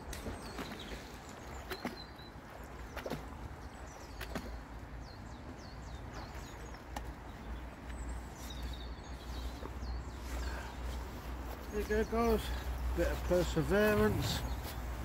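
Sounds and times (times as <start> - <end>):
small birds singing: 0.0 - 15.0.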